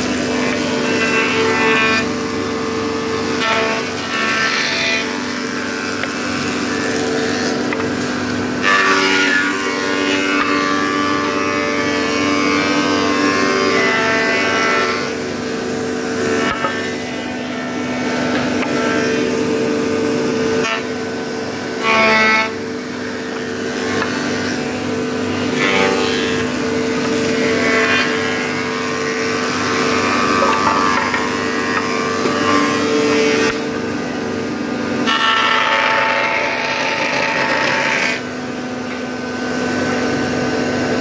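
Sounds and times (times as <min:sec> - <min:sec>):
wood planer humming: 0:00.0 - 0:41.0.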